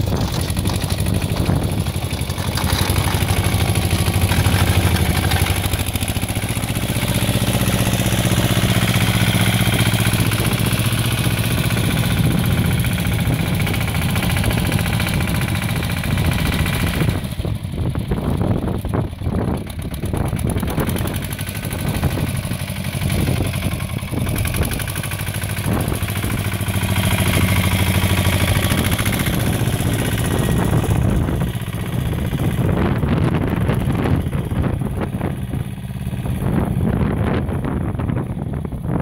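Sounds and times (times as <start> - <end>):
tractor diesel engine passing: 0.0 - 39.0.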